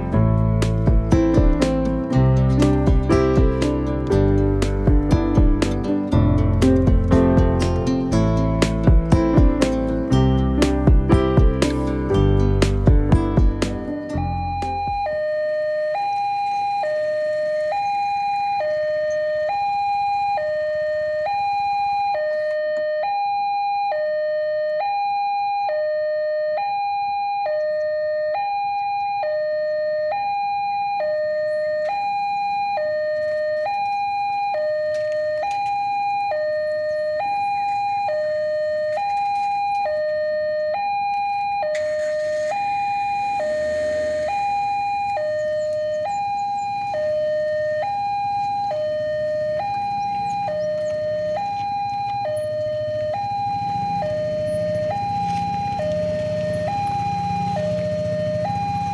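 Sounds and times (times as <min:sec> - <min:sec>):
level crossing two-tone alarm: 0:00.0 - 0:58.9.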